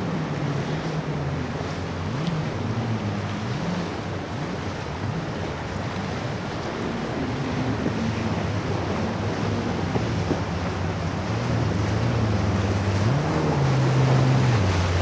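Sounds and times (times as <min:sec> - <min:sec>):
boat engines droning: 0:00.0 - 0:15.0
surf and bow-wave wash: 0:00.0 - 0:15.0
wind buffeting microphone: 0:00.0 - 0:15.0.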